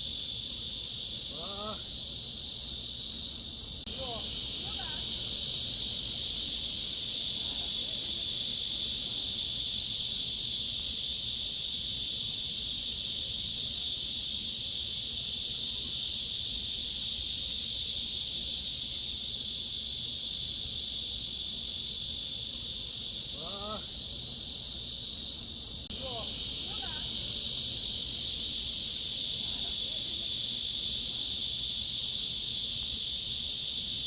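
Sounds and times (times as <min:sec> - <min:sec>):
cicada chorus buzzing: 0:00.0 - 0:34.0.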